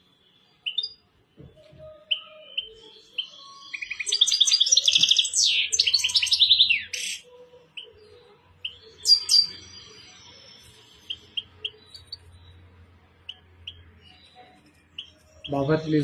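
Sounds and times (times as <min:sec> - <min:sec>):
soft bird chirps: 0:00.0 - 0:16.0
goldfinch twittering song: 0:00.3 - 0:01.0, 0:01.6 - 0:16.0.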